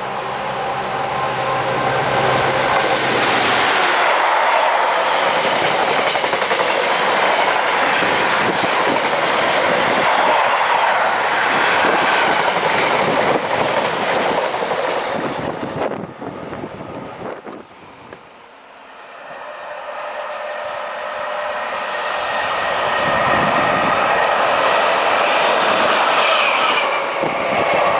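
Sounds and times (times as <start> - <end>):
freight train rumbling past: 0.0 - 27.9.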